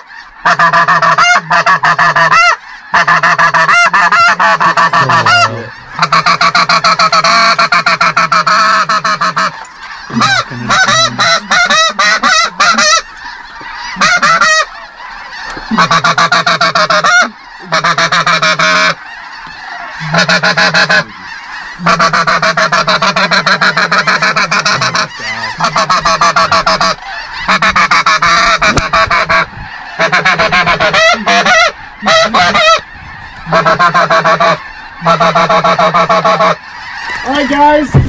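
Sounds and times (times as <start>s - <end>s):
goose call clucking: 0.0s - 38.0s.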